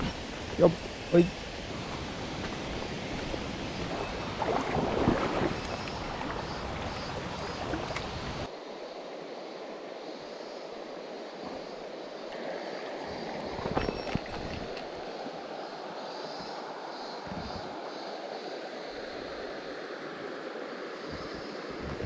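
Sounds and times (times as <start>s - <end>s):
stream rushing over rocks: 0.0s - 8.5s, 12.3s - 22.0s.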